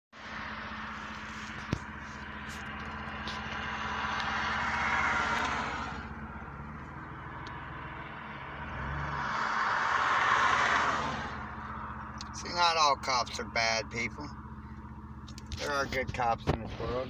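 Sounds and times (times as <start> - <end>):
engine hum: 0.1 - 17.0
rushing road noise: 0.2 - 17.0.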